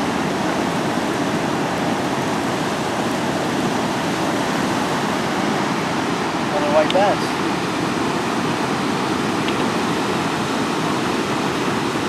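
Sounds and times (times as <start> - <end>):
water rushing through dam: 0.0 - 12.0.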